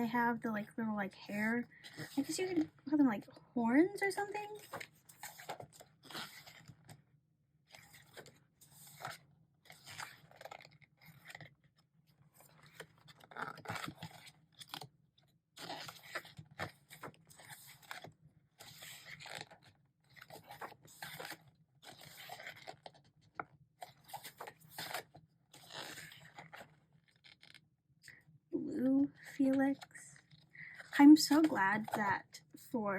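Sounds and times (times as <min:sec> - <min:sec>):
pages rustling and turning: 0:01.4 - 0:02.8, 0:04.0 - 0:07.0, 0:07.7 - 0:14.9, 0:15.6 - 0:27.6, 0:29.2 - 0:32.2.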